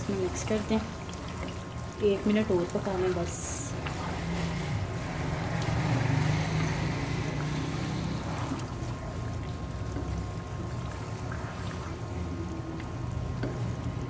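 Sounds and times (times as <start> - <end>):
wooden spoon stirring: 0.0 - 5.1, 7.2 - 14.0
gravy sizzling and bubbling in a wok: 0.0 - 14.0.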